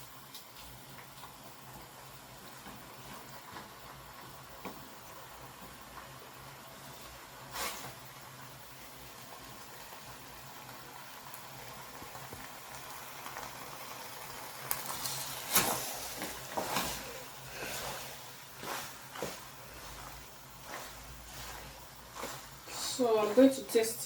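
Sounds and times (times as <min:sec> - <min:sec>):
sauce boiling in a pot: 0:00.0 - 0:24.0.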